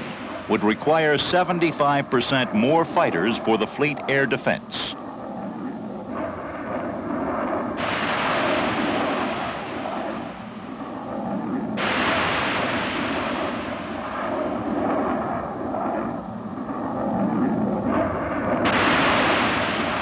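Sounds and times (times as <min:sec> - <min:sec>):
jet aircraft roar: 0:00.0 - 0:20.0.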